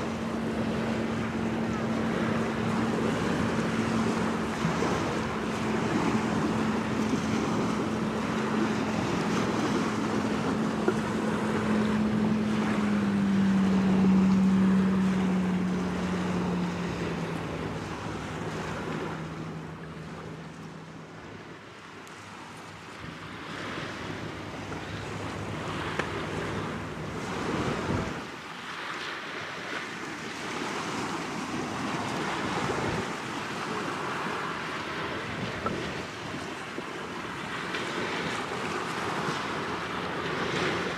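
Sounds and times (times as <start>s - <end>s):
wind buffeting microphone: 0.0s - 28.6s, 29.2s - 40.9s
ship engine hum: 0.0s - 40.9s
water washing at shoreline: 0.0s - 40.9s.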